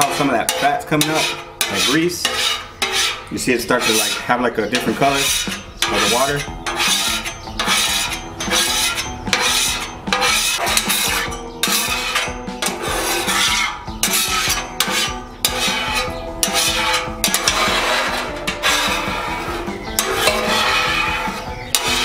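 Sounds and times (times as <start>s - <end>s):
light background music: 0.0s - 22.0s
metal scraper on steel griddle: 0.0s - 22.0s.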